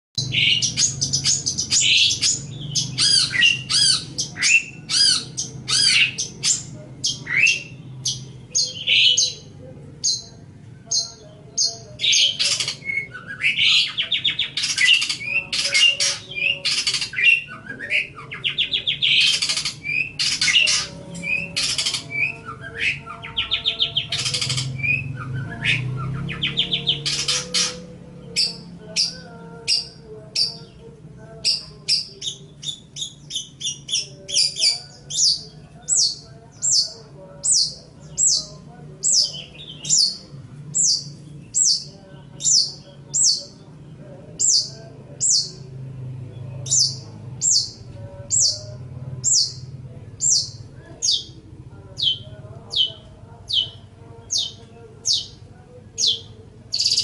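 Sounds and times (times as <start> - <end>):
shrike singing varied song: 0.2 - 57.0.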